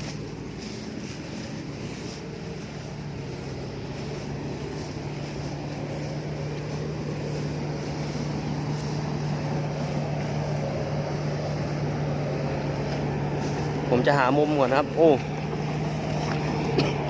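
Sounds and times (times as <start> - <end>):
harvester engine humming: 0.0 - 17.0.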